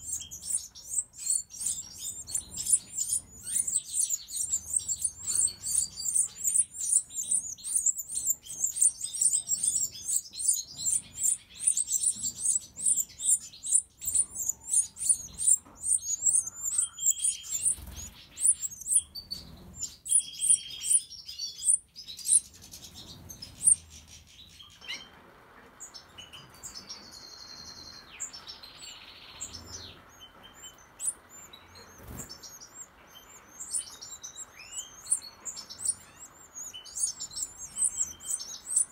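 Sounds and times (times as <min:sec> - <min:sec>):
nestlings begging with high chirps: 0:00.0 - 0:25.1, 0:25.8 - 0:38.9
faint steady hiss: 0:00.0 - 0:38.9.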